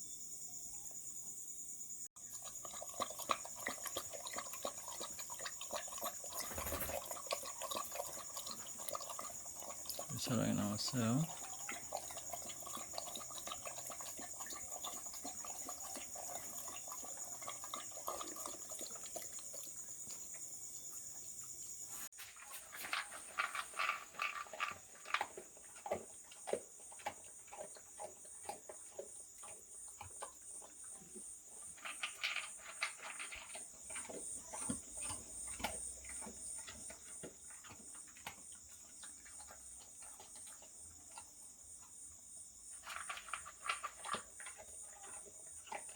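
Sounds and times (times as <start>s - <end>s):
insects chirping: 0.0s - 45.9s
dog chewing dry kibble: 2.2s - 20.3s, 22.2s - 41.4s, 42.7s - 45.9s.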